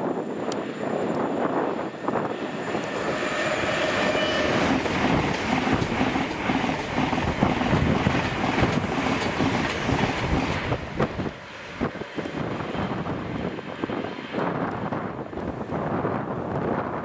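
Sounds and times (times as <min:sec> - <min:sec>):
train passing at speed: 0:00.0 - 0:17.0
wind on microphone: 0:00.0 - 0:17.0.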